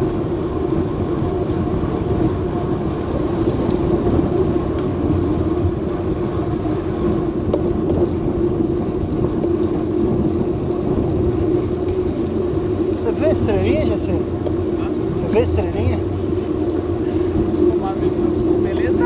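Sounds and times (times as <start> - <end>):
constant low hum: 0.0 - 19.0
road noise: 0.0 - 19.0
wind noise: 0.0 - 19.0.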